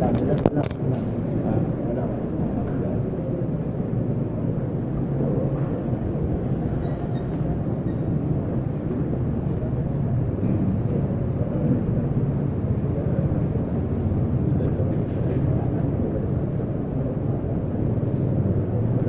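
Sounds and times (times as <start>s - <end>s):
crowd murmur in hall: 0.0s - 19.0s.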